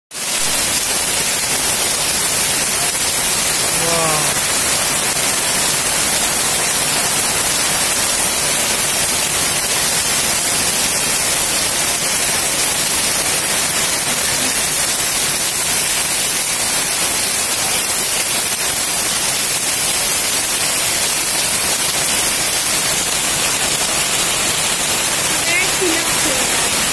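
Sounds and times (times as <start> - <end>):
heavy rain pouring: 0.1 - 26.9.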